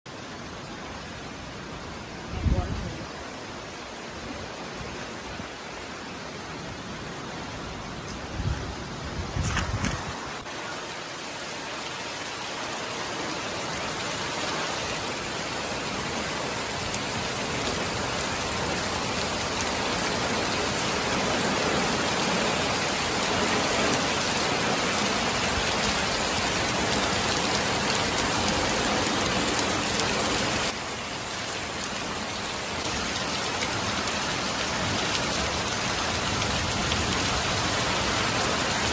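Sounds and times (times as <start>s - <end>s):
heavy rain falling: 0.1s - 38.9s.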